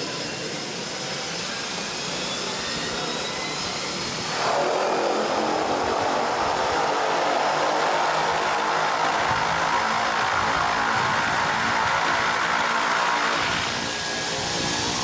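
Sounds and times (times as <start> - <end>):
turboprop engine and propeller running: 0.0 - 15.0.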